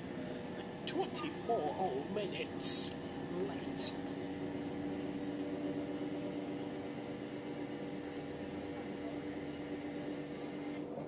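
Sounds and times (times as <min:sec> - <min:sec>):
low hum: 0:00.0 - 0:10.8
train carriage running noise: 0:00.0 - 0:11.0.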